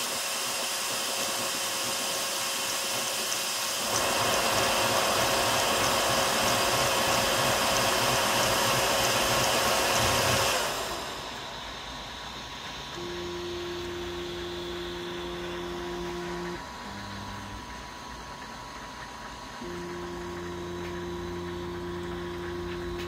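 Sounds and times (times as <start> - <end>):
cooling blower hissing: 0.0 - 23.0
stepper motors moving print head: 0.8 - 23.0.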